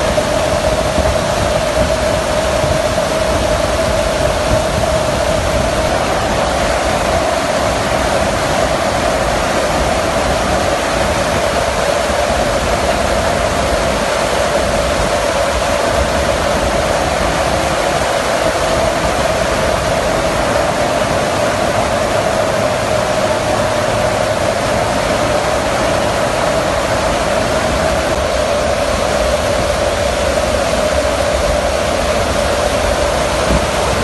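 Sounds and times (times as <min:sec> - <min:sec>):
aircraft engine drone: 0:00.0 - 0:34.0
mid-pitched hum: 0:00.0 - 0:34.0
wind rushing: 0:00.0 - 0:34.0.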